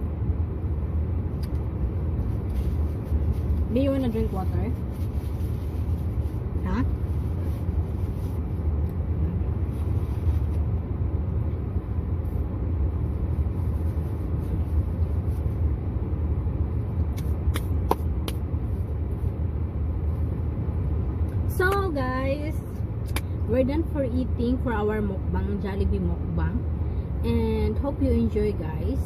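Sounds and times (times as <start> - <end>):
car cabin engine rumble: 0.0 - 29.0.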